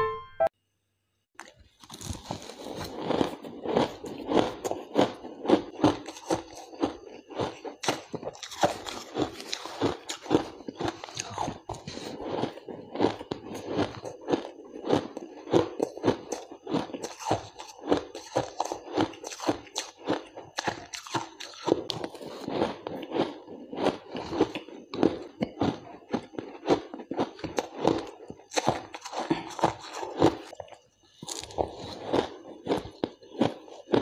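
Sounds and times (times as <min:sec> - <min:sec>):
ice crunched between teeth: 0:01.4 - 0:26.2, 0:31.2 - 0:34.0.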